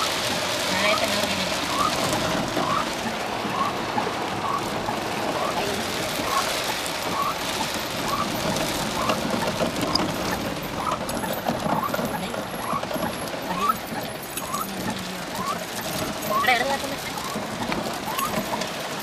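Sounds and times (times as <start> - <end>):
heavy rain on a vehicle: 0.0 - 19.0.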